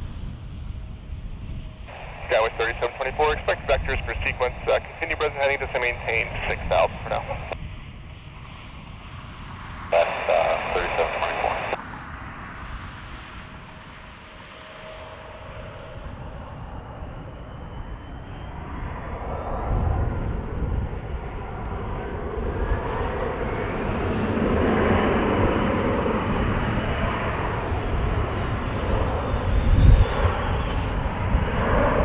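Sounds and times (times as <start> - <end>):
jet engines taking off: 0.0 - 32.0
wind buffeting microphone: 0.0 - 32.0.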